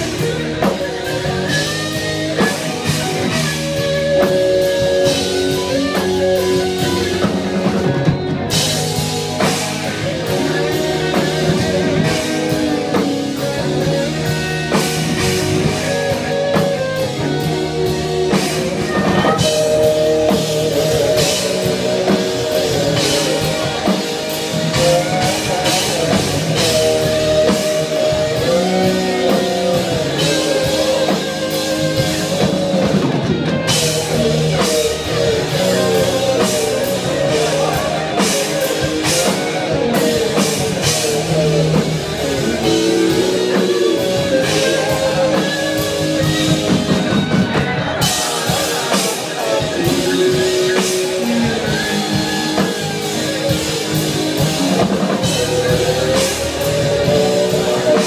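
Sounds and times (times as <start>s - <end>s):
drum kit: 0.0s - 58.0s
electric guitar: 0.0s - 58.0s
rock band playing live: 0.0s - 58.0s.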